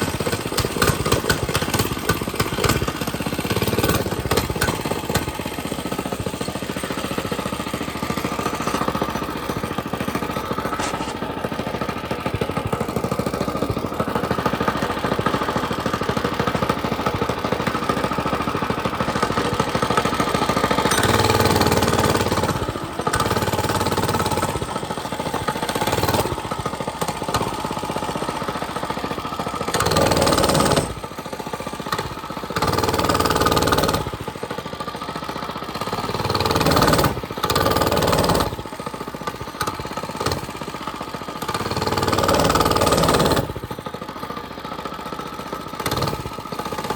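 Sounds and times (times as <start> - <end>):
small bike engine revving: 0.0 - 44.8, 45.5 - 46.9.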